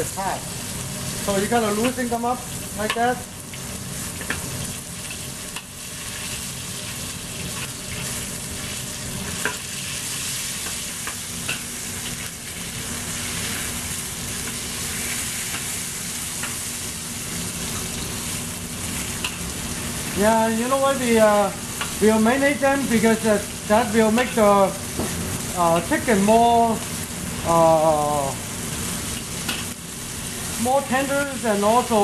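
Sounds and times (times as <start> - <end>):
chicken sizzling in a wok: 0.0 - 32.0.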